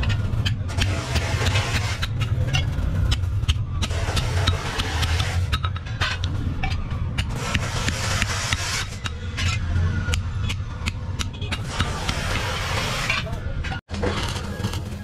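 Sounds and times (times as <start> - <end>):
hammer striking steel: 0.0 - 13.3.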